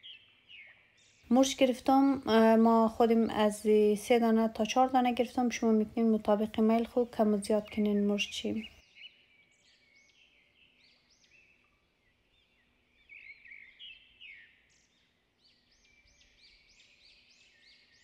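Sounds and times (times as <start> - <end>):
small birds twittering: 0.0 - 18.0.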